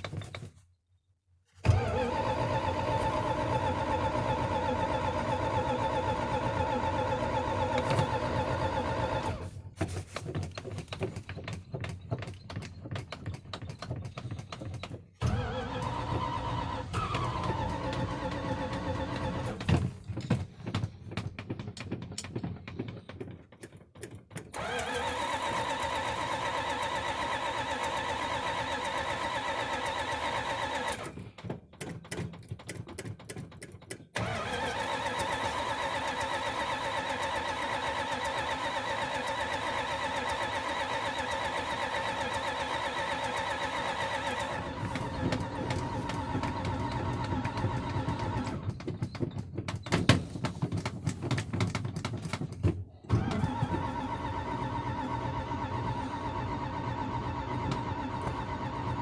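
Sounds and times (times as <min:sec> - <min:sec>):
cold engine stumbling and running: 0:01.6 - 0:59.0.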